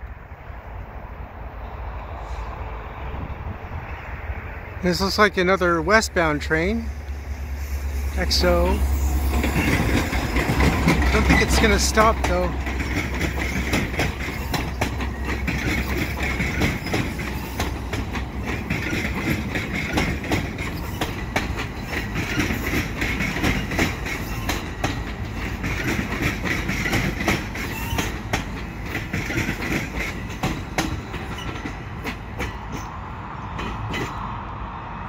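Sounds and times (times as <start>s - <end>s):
steel wheels rumbling on rail: 0.0s - 35.0s
wheels clacking over rail joints: 4.8s - 34.3s.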